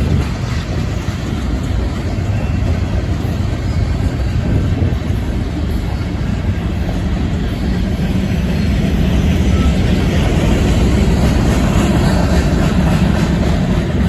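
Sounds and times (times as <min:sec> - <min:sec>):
train wheels rumbling on rail: 0:00.0 - 0:14.0
wind buffeting microphone: 0:00.0 - 0:14.0.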